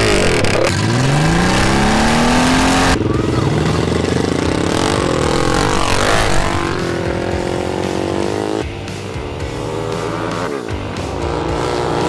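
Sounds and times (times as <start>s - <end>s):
engine revving hard: 0.0s - 12.0s.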